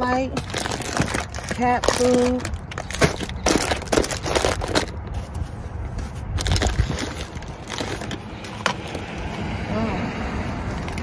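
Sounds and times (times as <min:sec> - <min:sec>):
plastic bag rustling: 0:00.0 - 0:09.3
items scraping and knocking: 0:00.3 - 0:09.4.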